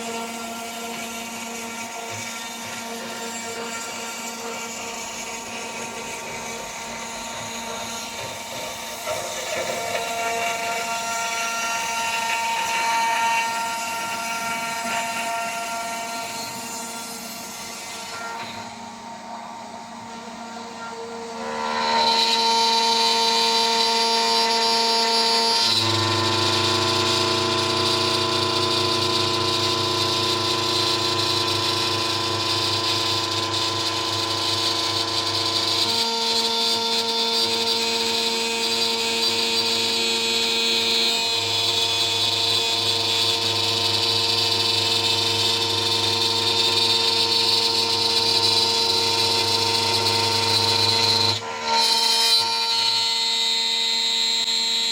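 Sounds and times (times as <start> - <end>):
router spindle whining: 0.0 - 54.9.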